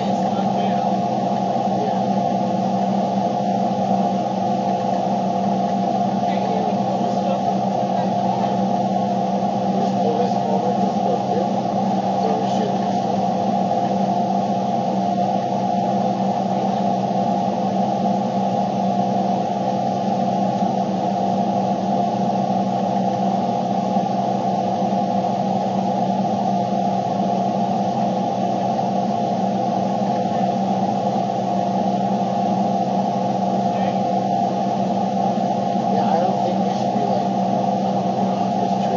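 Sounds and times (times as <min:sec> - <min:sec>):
car cabin drone: 0:00.0 - 0:38.9.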